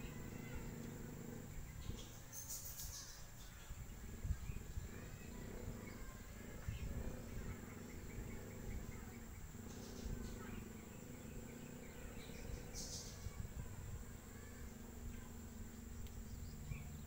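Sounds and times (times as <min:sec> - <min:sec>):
high insect drone: 0:00.0 - 0:17.0
low rumble: 0:00.0 - 0:17.0
small birds chirping: 0:00.0 - 0:17.0.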